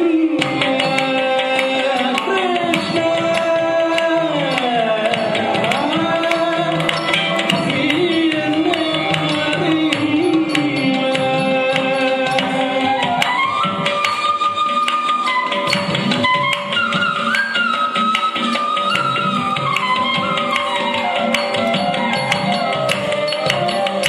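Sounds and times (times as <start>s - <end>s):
ornamented melodic line: 0.5s - 24.0s.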